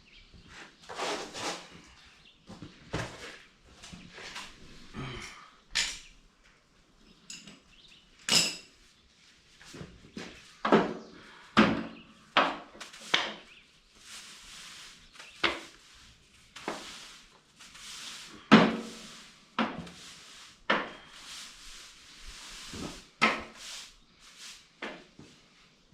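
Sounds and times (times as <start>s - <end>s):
broom scraping and knocking: 0.3s - 5.2s, 9.6s - 25.8s.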